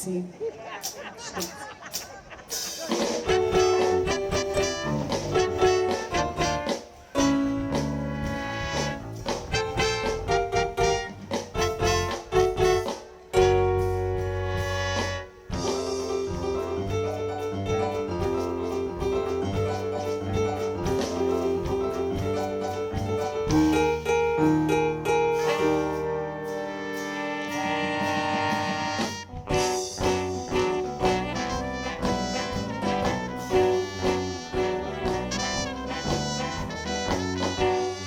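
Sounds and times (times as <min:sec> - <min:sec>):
live band with piano: 0:00.0 - 0:38.0.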